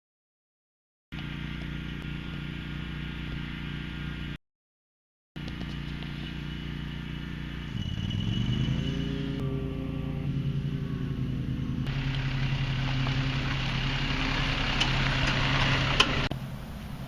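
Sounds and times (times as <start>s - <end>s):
vehicle engine running: 1.1s - 4.4s, 5.4s - 17.0s.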